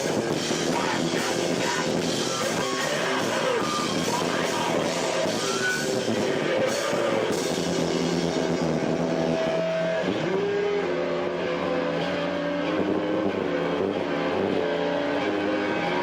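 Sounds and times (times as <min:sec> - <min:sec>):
distorted electric guitar: 0:00.0 - 0:16.0
rock band playing live: 0:00.0 - 0:16.0.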